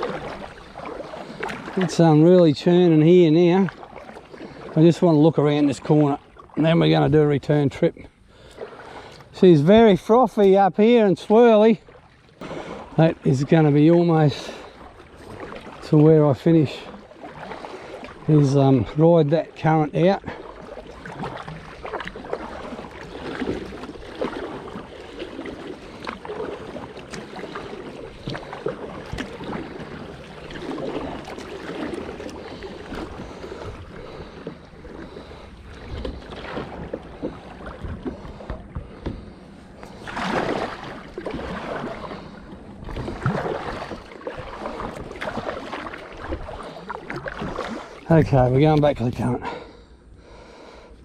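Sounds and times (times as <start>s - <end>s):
churning river current: 0.0s - 51.0s
paddle strokes splashing: 0.0s - 51.0s.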